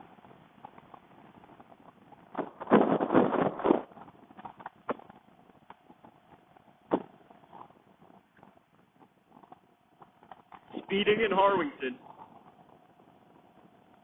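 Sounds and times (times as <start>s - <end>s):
wind buffeting helmet microphone: 0.0s - 14.0s.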